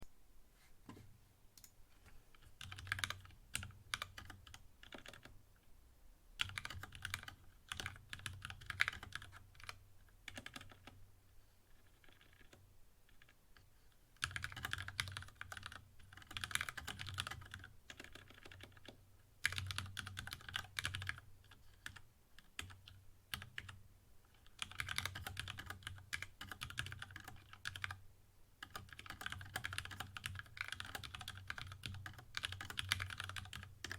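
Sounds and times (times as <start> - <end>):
mechanical keyboard typing: 2.4 - 5.3, 6.4 - 11.0, 11.8 - 13.4, 14.2 - 23.8, 24.4 - 28.0, 28.6 - 33.9.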